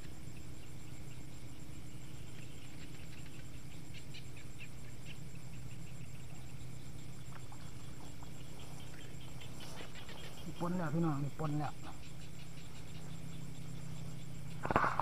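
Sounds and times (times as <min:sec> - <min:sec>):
night insects pulsing drone: 0:00.0 - 0:15.0
steady low hum: 0:00.0 - 0:15.0.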